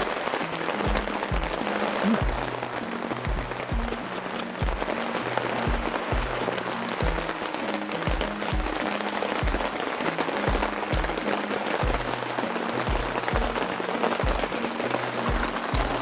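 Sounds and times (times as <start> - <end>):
background music with low beat: 0.0 - 16.0
heavy rain falling: 0.0 - 16.0.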